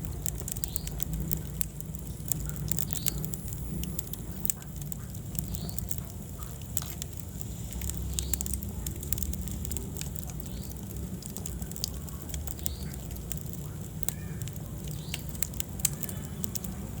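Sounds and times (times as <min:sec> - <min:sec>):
burning wood crackling and popping: 0:00.0 - 0:17.0
low rumble of flame: 0:00.0 - 0:17.0.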